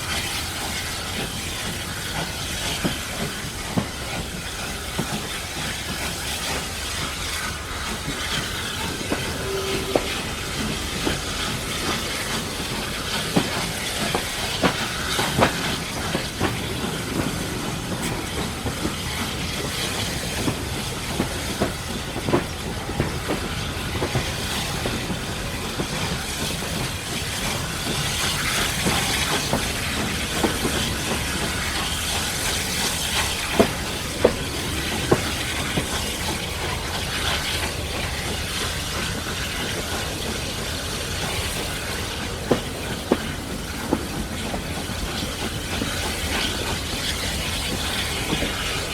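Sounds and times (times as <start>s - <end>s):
steam train running noise and hiss: 0.0s - 48.9s
wheels clicking on rail joints: 0.0s - 48.9s.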